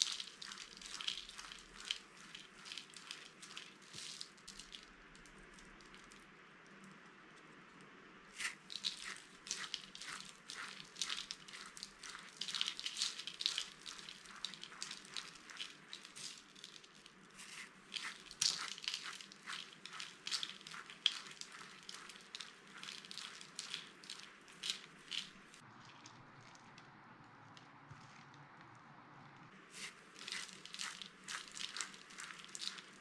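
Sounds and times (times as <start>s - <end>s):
dry soap crunching: 0.0s - 6.2s, 8.4s - 28.3s, 29.7s - 33.0s.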